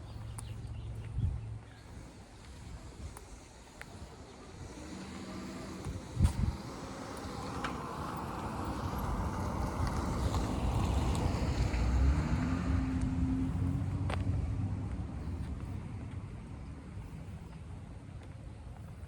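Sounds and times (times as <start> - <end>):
car engine and tyre noise: 0.0 - 19.0.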